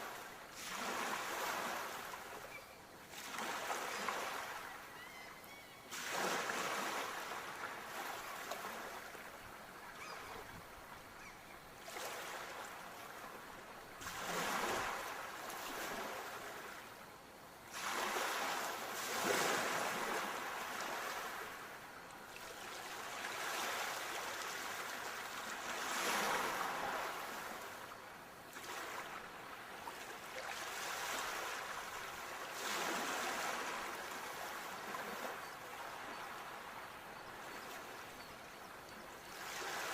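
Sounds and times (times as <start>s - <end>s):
sea waves breaking on shore: 0.0s - 16.9s, 17.6s - 38.6s, 39.2s - 39.9s.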